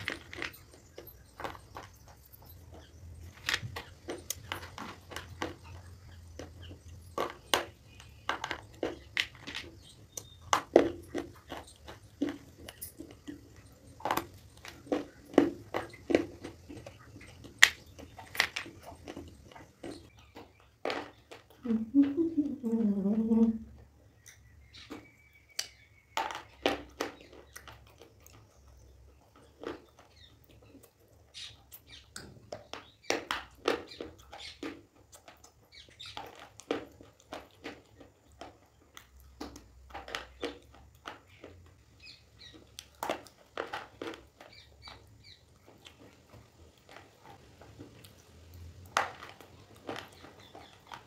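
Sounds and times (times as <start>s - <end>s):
chewing crunchy stone: 0.0s - 21.7s, 24.2s - 51.0s.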